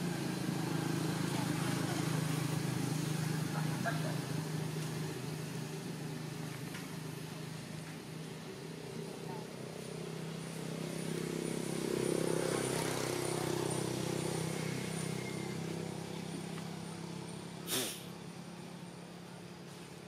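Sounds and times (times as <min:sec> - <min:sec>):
motor engine droning: 0:00.0 - 0:20.0.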